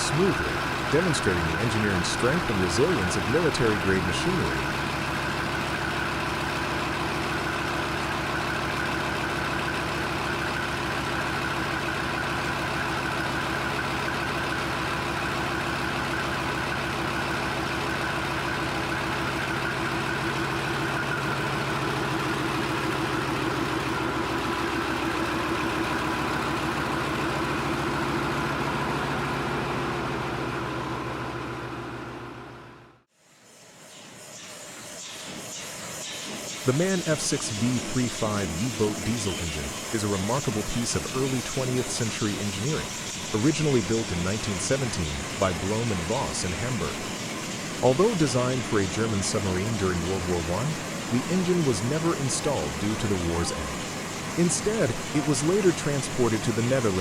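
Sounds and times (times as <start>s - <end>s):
diesel engine running steadily: 0.0s - 33.1s, 35.5s - 57.0s.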